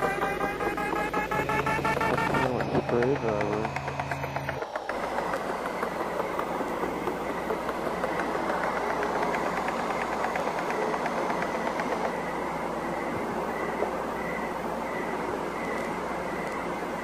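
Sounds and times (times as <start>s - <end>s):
mechanical engine running: 0.0s - 17.0s.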